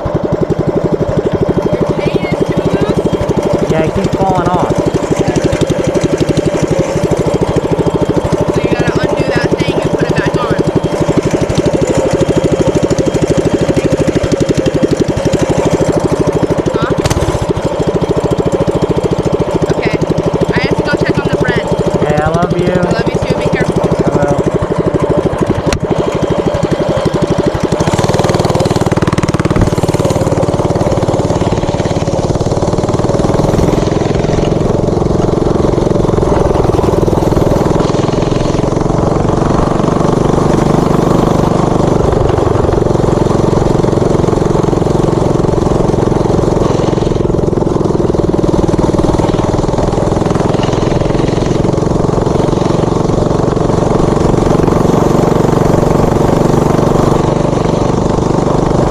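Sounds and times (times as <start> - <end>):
mini bike engine running: 0.0 - 58.9.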